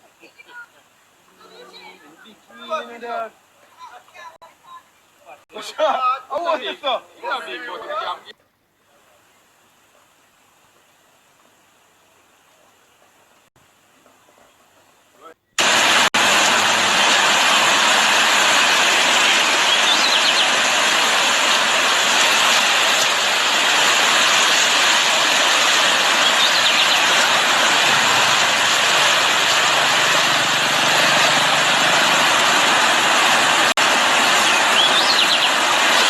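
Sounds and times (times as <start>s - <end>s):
rushing floodwater roar: 0.0s - 8.1s, 8.9s - 36.0s.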